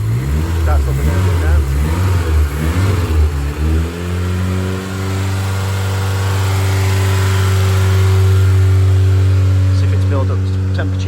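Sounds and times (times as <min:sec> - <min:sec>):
turbo car engine running: 0:00.0 - 0:11.0.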